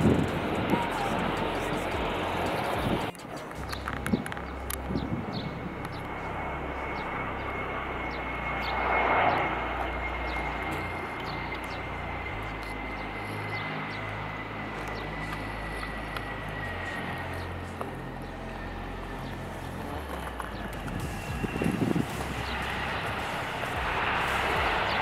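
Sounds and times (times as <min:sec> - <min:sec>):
high engine whine: 0:00.0 - 0:25.0
jet engines roaring: 0:00.0 - 0:25.0.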